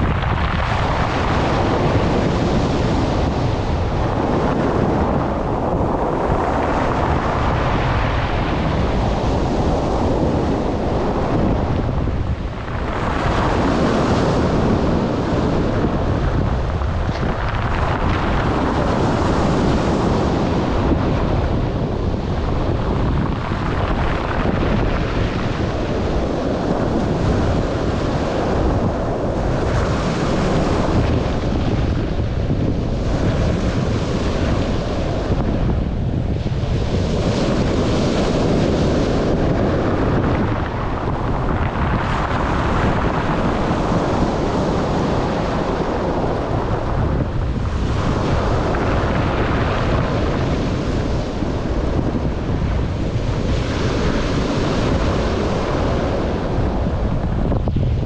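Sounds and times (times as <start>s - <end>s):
surf breaking on shore: 0.0s - 58.0s
wind rumbling on microphone: 0.0s - 58.0s.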